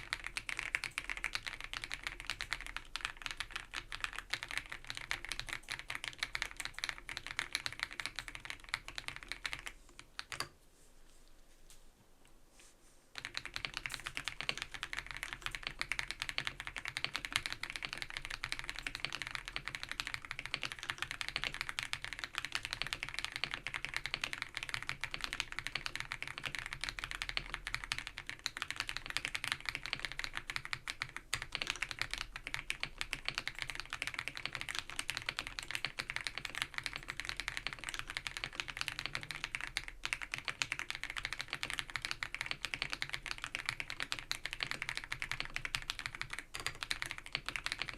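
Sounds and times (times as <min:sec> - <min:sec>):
mechanical keyboard typing: 0:00.0 - 0:10.5, 0:13.2 - 0:47.9.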